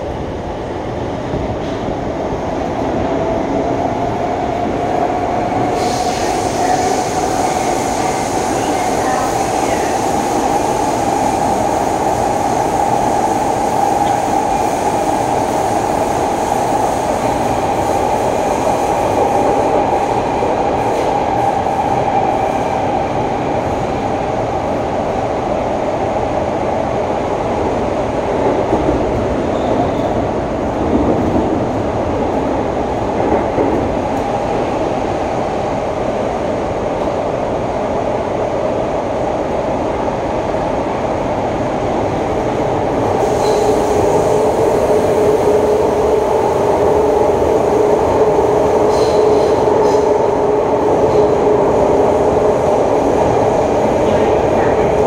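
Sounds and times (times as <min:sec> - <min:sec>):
metro train wheels rumbling on rail: 0:00.0 - 0:55.0.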